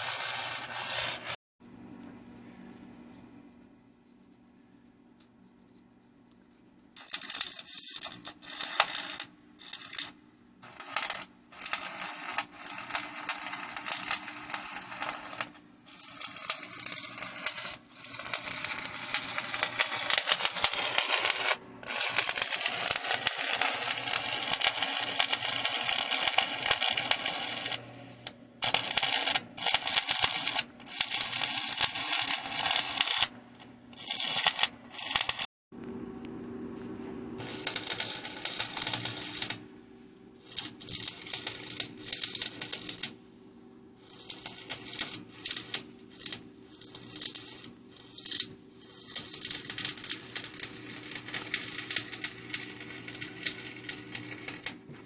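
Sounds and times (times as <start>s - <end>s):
welding arc crackling and sizzling: 0.0s - 1.4s, 7.0s - 35.5s, 37.4s - 39.6s, 40.4s - 43.2s, 44.0s - 55.0s.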